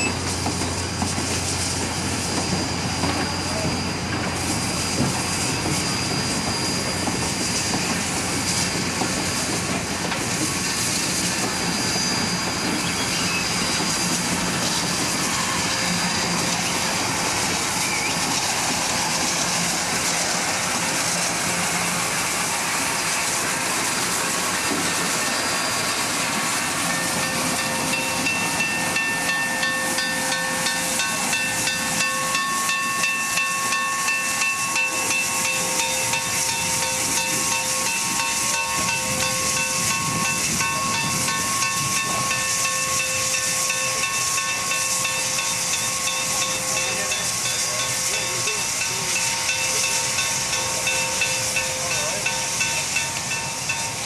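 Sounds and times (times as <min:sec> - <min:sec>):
steam locomotive moving: 0:00.0 - 0:54.0
hiss of escaping steam: 0:00.1 - 0:54.0.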